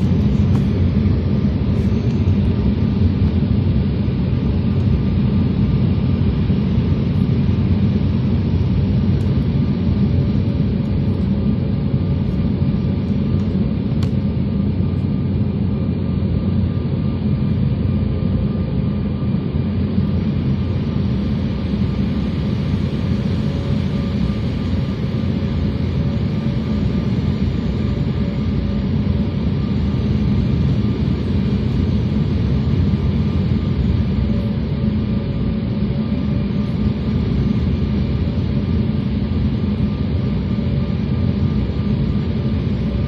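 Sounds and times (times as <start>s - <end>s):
airliner engine rumble: 0.0s - 43.0s.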